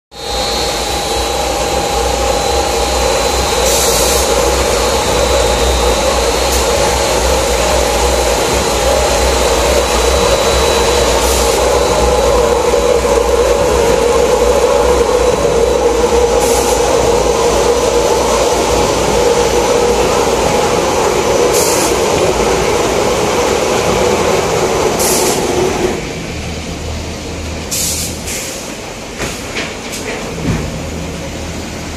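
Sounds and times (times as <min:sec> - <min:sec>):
conveyor running: 0:00.1 - 0:31.9
machine hum with rumble: 0:00.2 - 0:28.4.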